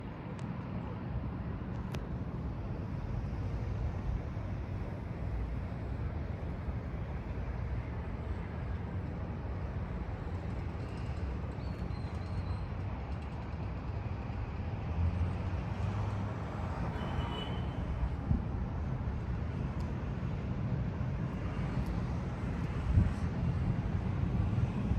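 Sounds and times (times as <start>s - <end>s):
city background rumble: 0.0s - 24.9s.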